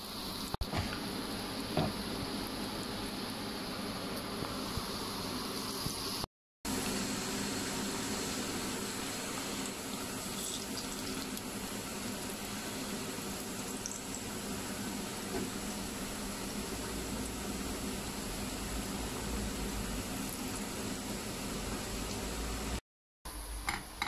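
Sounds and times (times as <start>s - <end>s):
hot oil sizzling: 0.0s - 22.8s.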